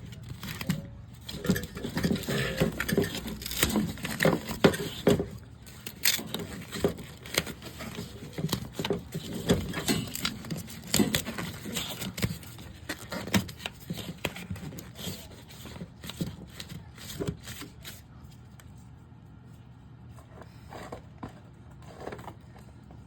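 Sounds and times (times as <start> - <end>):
scraping and rustling: 0.0 - 23.0.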